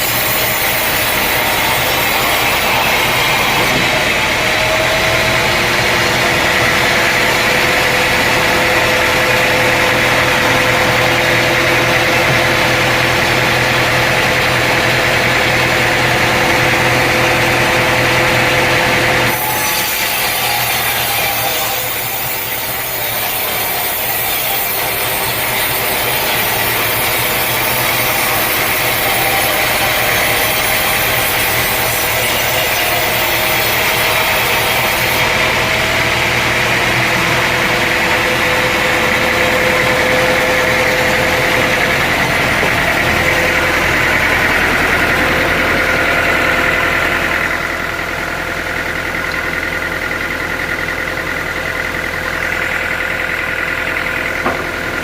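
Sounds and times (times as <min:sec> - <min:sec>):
saw cutting through log: 0:00.0 - 0:55.0
sawmill engine running: 0:00.0 - 0:55.0.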